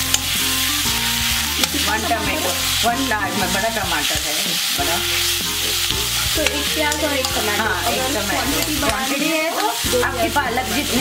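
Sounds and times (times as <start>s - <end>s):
faint background music: 0.0s - 11.0s
onions sizzling in a pan: 0.0s - 11.0s
steel spoon scraping a pan: 0.0s - 11.0s.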